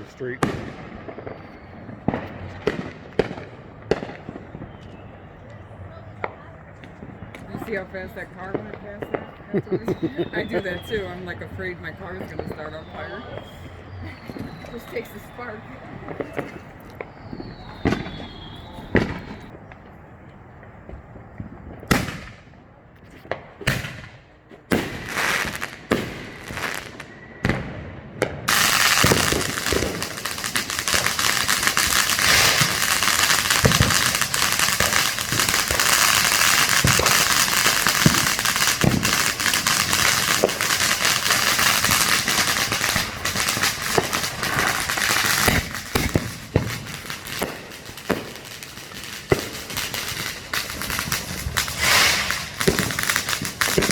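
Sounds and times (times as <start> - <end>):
firework bangs: 0.0 - 53.9
fireworks cracking and popping: 0.0 - 53.9.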